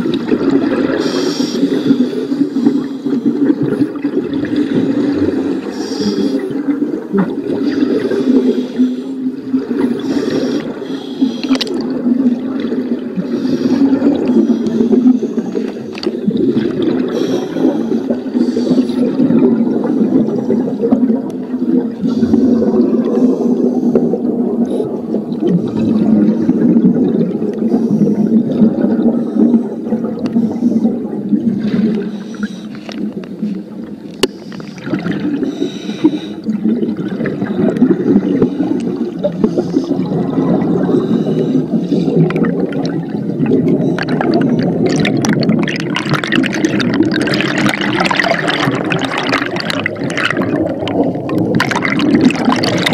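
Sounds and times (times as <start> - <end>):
muffled underwater rumble: 0.0 - 52.9
regulator bubbles gurgling: 0.0 - 52.9.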